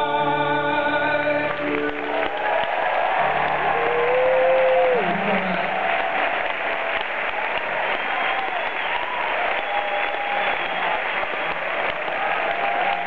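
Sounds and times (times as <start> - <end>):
audience applauding: 1.4 - 13.0
people cheering: 1.5 - 13.0.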